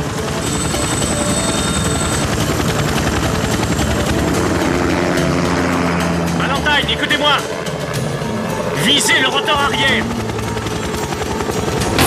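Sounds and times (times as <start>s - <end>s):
helicopter engine noise: 0.0s - 12.0s
helicopter rotor chop: 0.0s - 12.0s.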